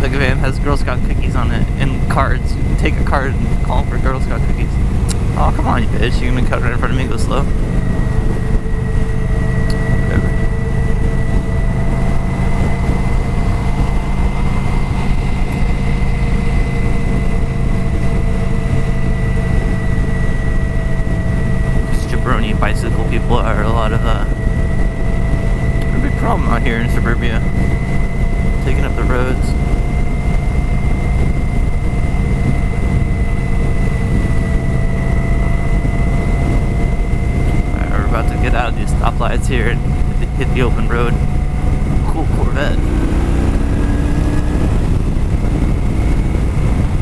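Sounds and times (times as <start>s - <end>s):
motorcycle engine running steadily: 0.0s - 47.0s.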